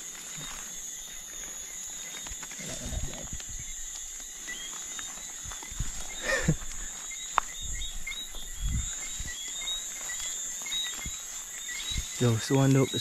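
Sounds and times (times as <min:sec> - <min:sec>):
crickets chirping: 0:00.0 - 0:13.0
footsteps through grass: 0:00.0 - 0:13.0.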